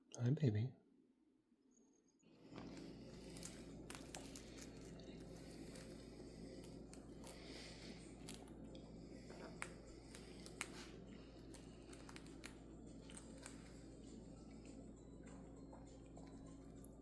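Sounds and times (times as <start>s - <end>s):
low steady hum: 2.3s - 17.0s
parrot chewing with beak: 2.4s - 17.0s.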